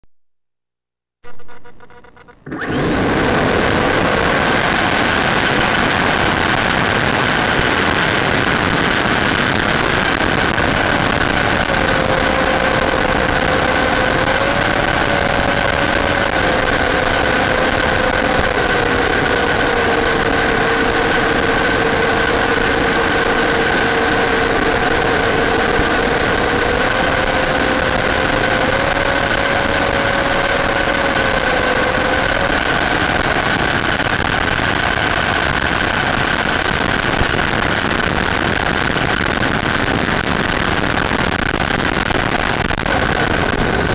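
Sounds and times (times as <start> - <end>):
model airplane motor and propeller: 2.1 - 43.9.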